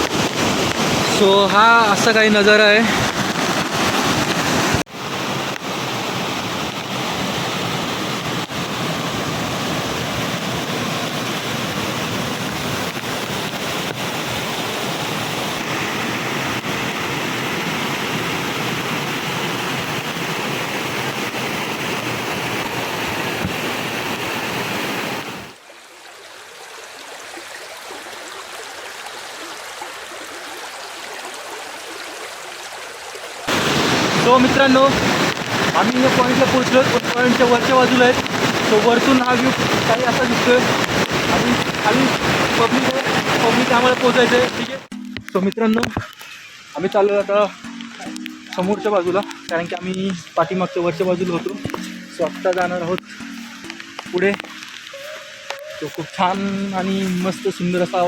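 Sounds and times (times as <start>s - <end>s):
waterfall rushing water: 0.0s - 58.0s.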